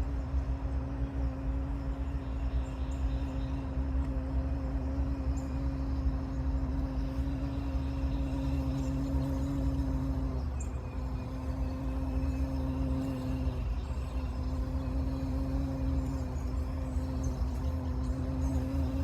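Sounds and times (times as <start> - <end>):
bee buzzing: 0.0 - 19.0.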